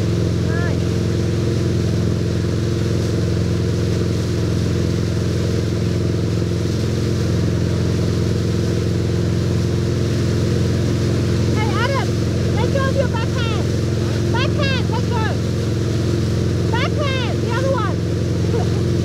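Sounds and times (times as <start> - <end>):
boat engine droning: 0.0 - 19.0
churning wake water: 0.0 - 19.0.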